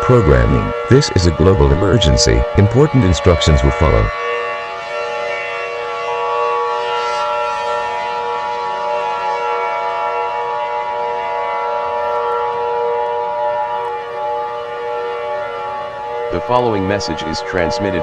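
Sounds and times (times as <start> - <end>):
steady siren chord: 0.0 - 18.0.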